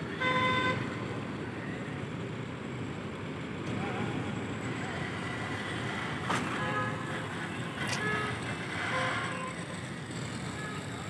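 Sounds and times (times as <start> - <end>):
distant city traffic hum: 0.0 - 11.0.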